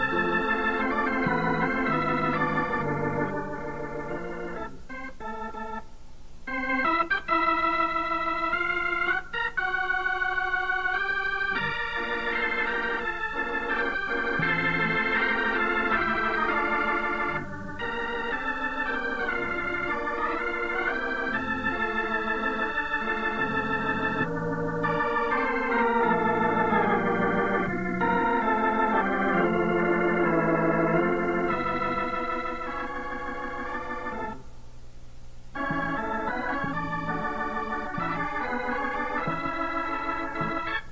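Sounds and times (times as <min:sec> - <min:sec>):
organ music: 0:00.0 - 0:34.6, 0:35.5 - 0:40.9.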